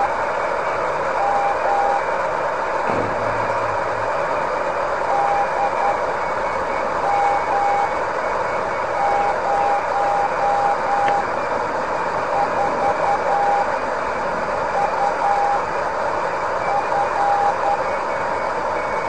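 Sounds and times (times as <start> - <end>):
morse code tone: 0.0 - 2.2, 4.3 - 11.6, 12.2 - 15.7, 16.3 - 19.0
radio static hiss: 0.0 - 19.0.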